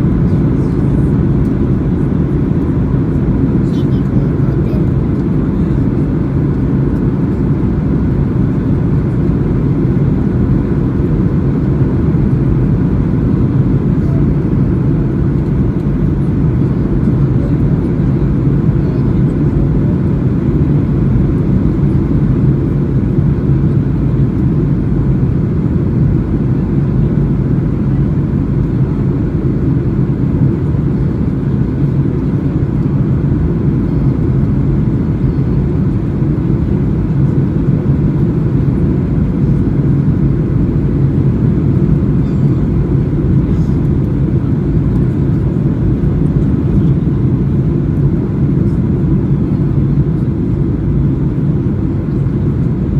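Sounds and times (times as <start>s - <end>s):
airplane cabin engine drone: 0.0s - 52.9s
faint constant hum: 0.0s - 52.9s.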